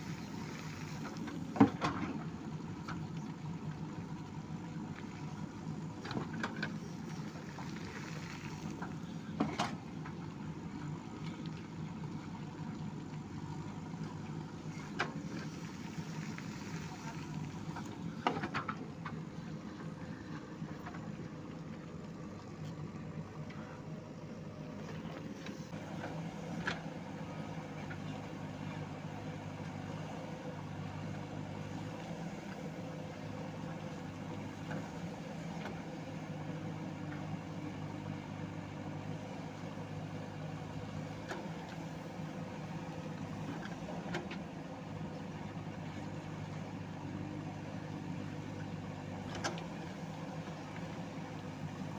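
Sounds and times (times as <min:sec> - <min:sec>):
diesel engine idling: 0:00.0 - 0:49.3.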